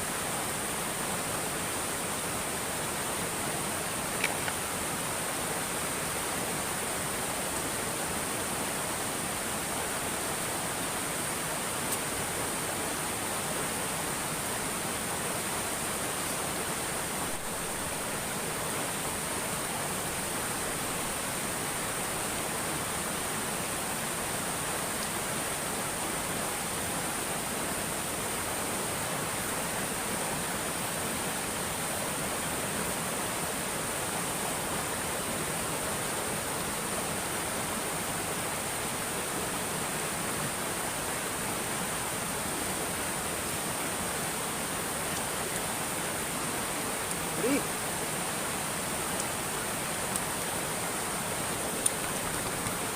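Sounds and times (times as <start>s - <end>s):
constant high hiss: 0.0s - 52.9s.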